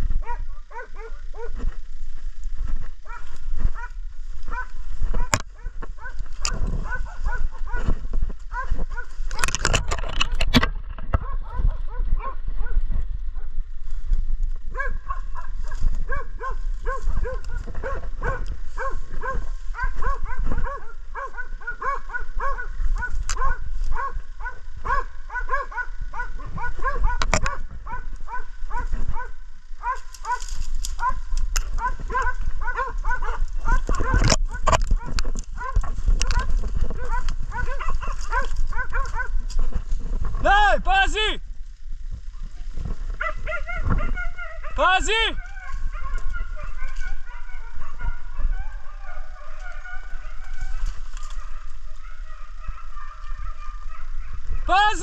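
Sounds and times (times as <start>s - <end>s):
dogs barking: 0.0s - 1.9s, 2.6s - 13.7s, 14.6s - 39.8s, 43.1s - 55.0s
noisy crackle: 0.0s - 55.0s.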